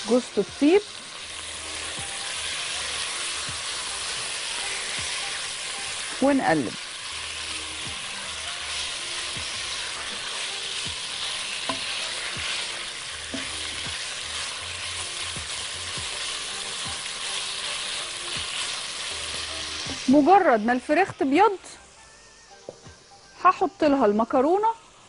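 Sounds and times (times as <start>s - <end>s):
chicken sizzling in hot oil: 0.0s - 22.2s, 23.1s - 25.0s.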